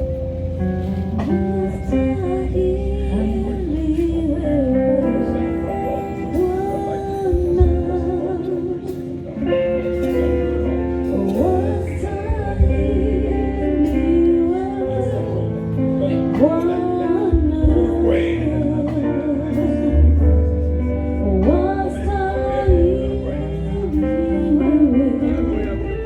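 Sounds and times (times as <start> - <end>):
held instrumental chords: 0.0 - 26.0
steady bass line: 0.0 - 26.0
worship singing: 0.8 - 26.0.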